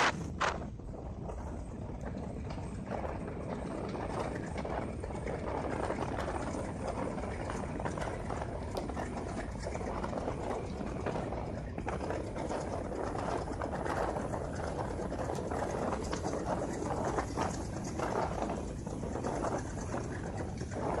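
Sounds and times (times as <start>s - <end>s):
train rumble: 0.0s - 21.0s
train wheels clattering: 1.4s - 21.0s.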